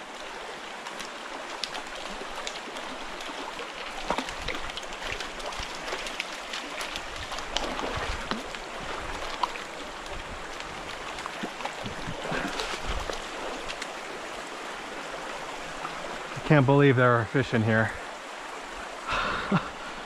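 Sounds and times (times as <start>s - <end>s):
light water splashes: 0.0s - 16.8s
creek running over rocks: 0.0s - 20.0s.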